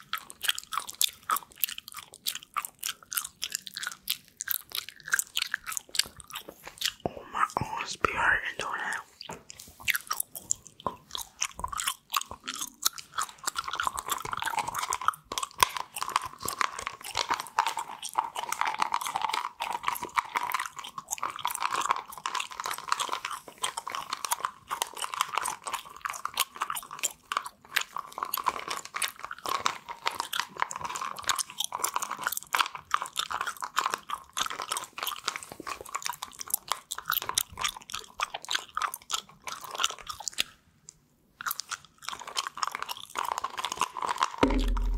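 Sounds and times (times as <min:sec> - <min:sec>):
gum chewing mouth clicks: 0:00.0 - 0:44.9.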